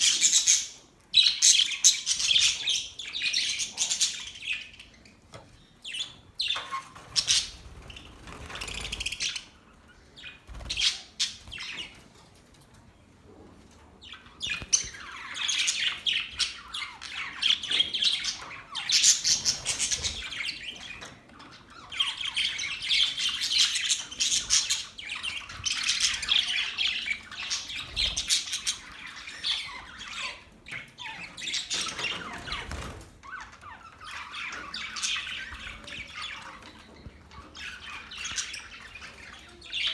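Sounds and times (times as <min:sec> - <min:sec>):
budgerigars chirping and chattering: 0:00.0 - 0:12.3, 0:13.3 - 0:39.9.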